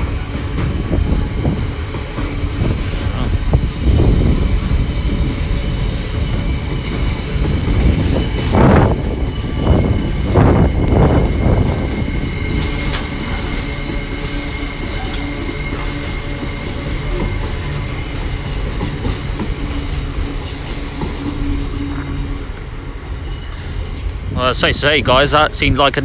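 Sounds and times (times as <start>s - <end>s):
train wheels clattering over rail joints: 0.0s - 24.4s
steady train rumble: 0.0s - 26.0s.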